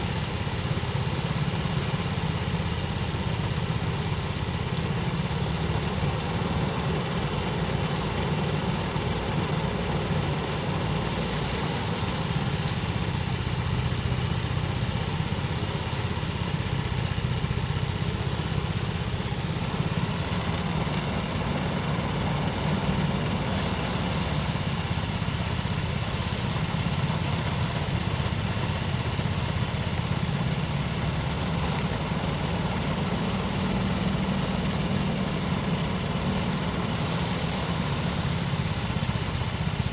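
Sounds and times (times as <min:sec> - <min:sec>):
small engine droning: 0:00.0 - 0:39.9.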